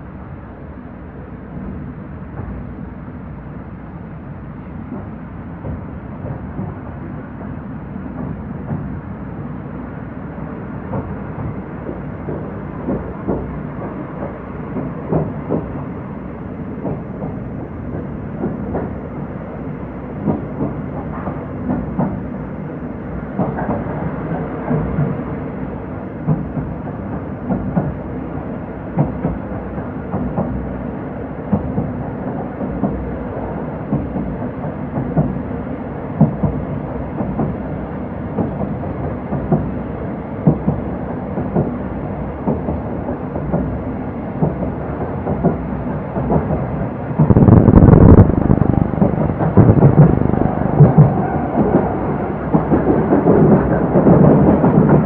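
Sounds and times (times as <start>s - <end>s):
train coach rumbling: 0.0s - 55.0s
wheels clickety-clack on rail joints: 1.6s - 3.0s, 3.6s - 55.0s.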